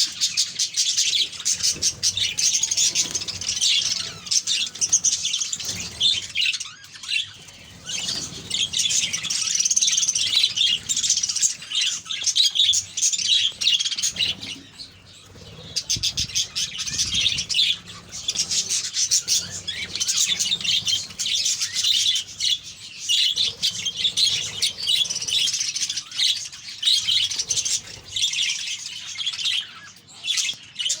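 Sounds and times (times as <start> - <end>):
budgerigars chattering and chirping: 0.0 - 31.0.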